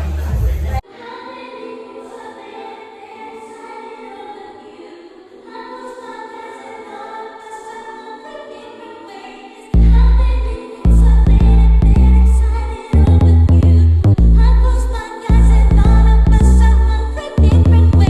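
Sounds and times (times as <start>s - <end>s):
choir singing slow chords: 0.8s - 18.0s.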